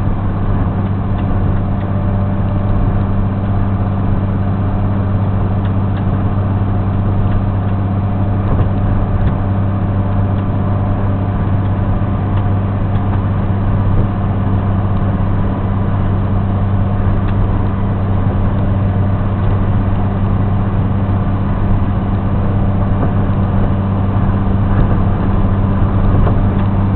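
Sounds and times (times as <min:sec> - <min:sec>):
road noise: 0:00.0 - 0:26.9
vehicle engine drone: 0:00.0 - 0:26.9.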